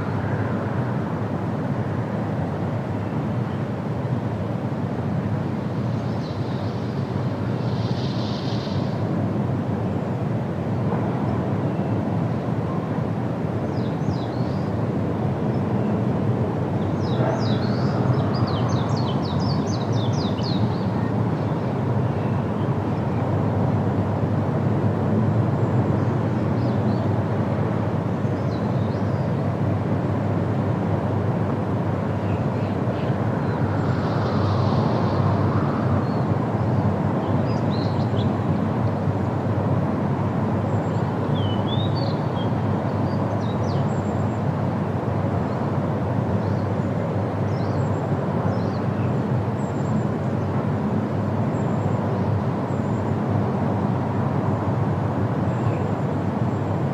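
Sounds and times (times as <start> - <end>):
wind through trees: 0.0 - 56.9.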